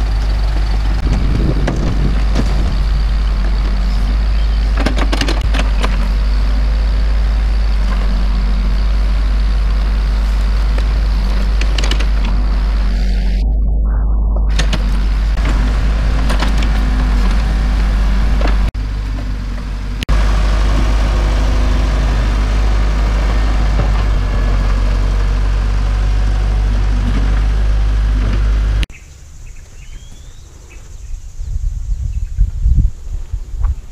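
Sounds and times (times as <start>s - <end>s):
diesel engine droning: 0.0s - 28.9s
open-air ambience: 0.0s - 33.9s.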